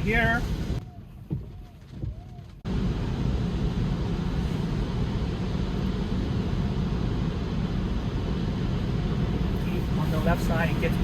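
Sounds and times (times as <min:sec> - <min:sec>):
rain on car: 0:00.0 - 0:01.4, 0:02.0 - 0:11.0.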